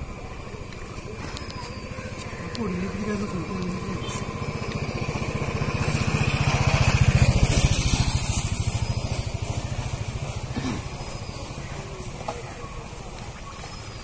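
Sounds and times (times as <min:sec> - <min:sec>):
small engine passing by: 0:00.0 - 0:14.0.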